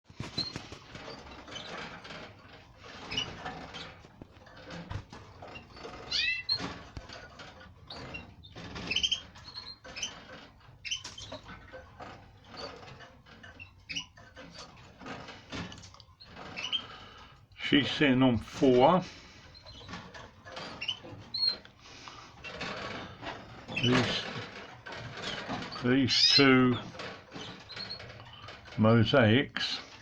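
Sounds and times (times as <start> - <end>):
small clicks and rustles: 0.0 - 30.0
canaries chirping: 0.2 - 29.0.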